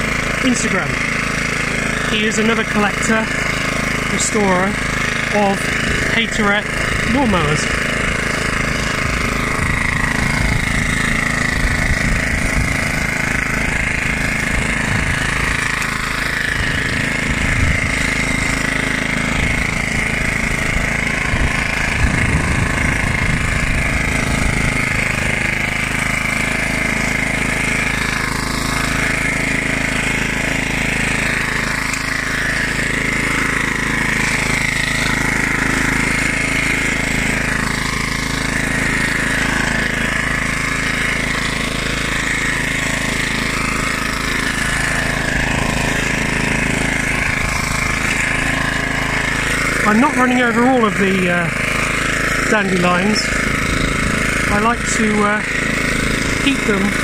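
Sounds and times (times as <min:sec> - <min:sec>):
lawnmower engine running: 0:00.0 - 0:57.0.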